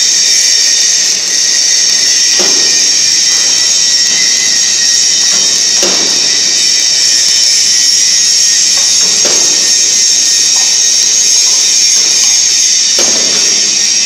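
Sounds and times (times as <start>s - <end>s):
high-pitched workshop hiss: 0.0s - 14.0s.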